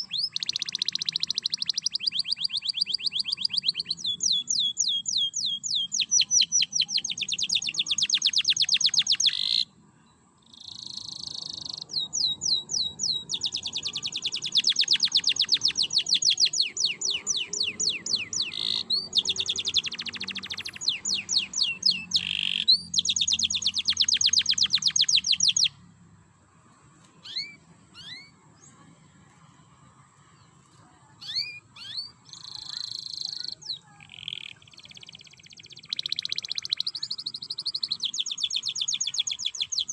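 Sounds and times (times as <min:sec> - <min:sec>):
bird chirps: 0:00.0 - 0:09.8, 0:10.4 - 0:25.8, 0:27.2 - 0:28.8, 0:31.2 - 0:39.9
canary singing trills: 0:00.0 - 0:09.8, 0:10.4 - 0:25.8, 0:27.2 - 0:28.8, 0:31.2 - 0:39.9.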